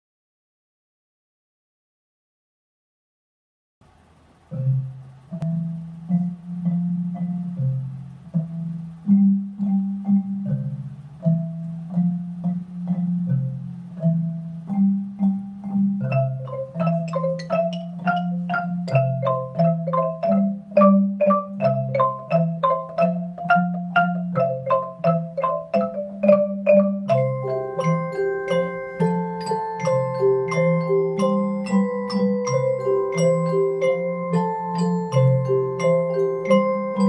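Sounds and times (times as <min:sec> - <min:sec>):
mallet instrument music: 0:04.5 - 0:37.0.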